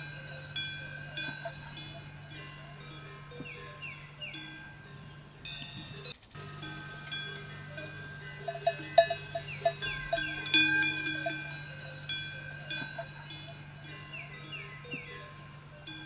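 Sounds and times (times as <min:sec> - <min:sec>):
animal bells clanking: 0:00.0 - 0:16.0
birds chirping: 0:00.0 - 0:16.0
steady low hum: 0:00.0 - 0:16.0.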